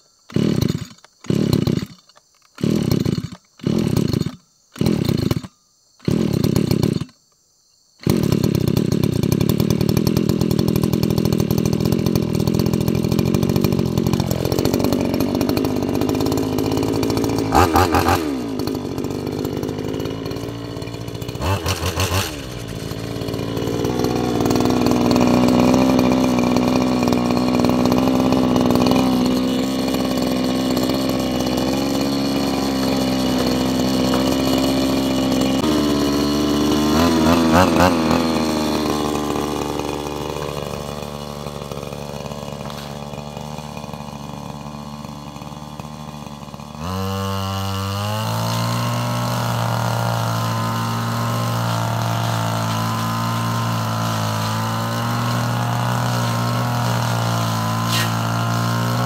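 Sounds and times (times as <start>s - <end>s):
brush cutter engine running: 0.2s - 7.2s, 8.0s - 59.0s.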